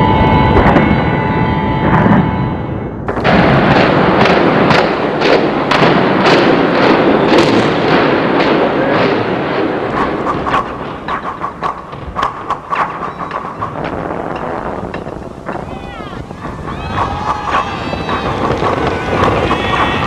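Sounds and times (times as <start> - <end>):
continuous noisy rush: 0.0 - 20.0
sharp bangs and cracks: 3.0 - 20.0.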